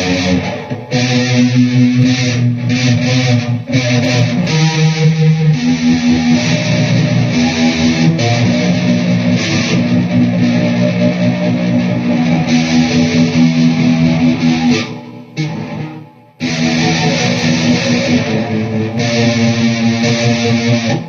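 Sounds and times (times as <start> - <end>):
electric guitar chords: 0.0 - 21.0.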